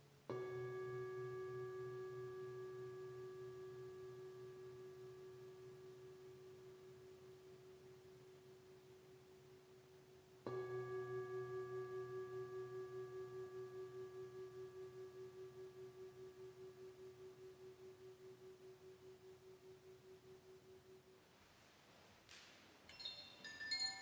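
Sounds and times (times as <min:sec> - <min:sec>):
singing bowl ringing: 0:00.3 - 0:21.2.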